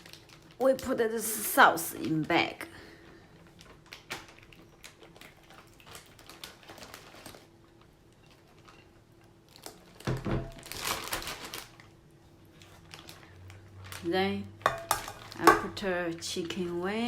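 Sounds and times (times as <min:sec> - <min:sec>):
plastic bag rustling: 0:00.0 - 0:15.9.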